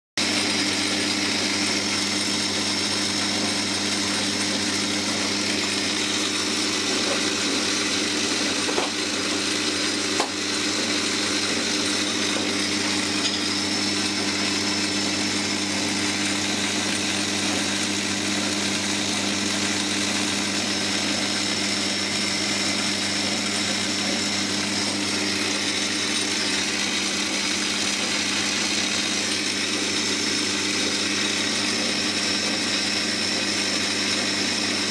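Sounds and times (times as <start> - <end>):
metal lathe motor humming: 0.2 - 34.9.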